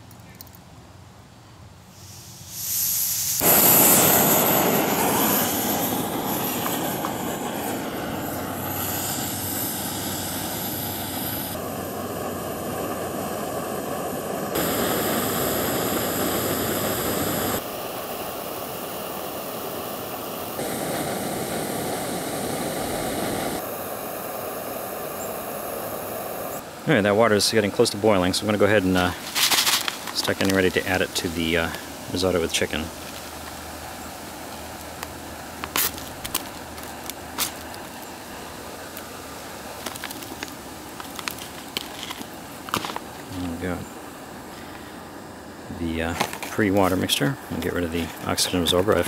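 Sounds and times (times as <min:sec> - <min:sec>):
gas stove burner hissing: 0:01.9 - 0:49.0.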